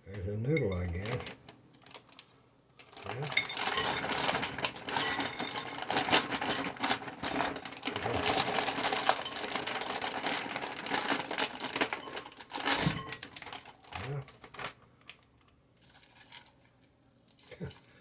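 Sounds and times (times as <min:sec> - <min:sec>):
plastic packaging crinkling: 0:00.9 - 0:18.0.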